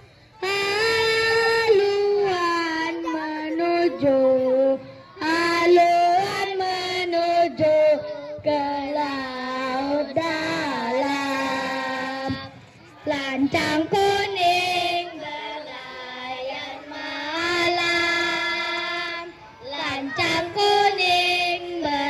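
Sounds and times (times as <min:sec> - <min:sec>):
child singing: 0:00.4 - 0:22.0.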